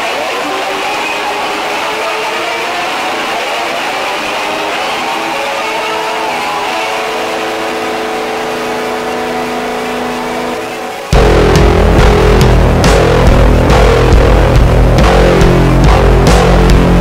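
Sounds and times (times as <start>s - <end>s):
noisy drone with held tones: 0.0s - 17.0s.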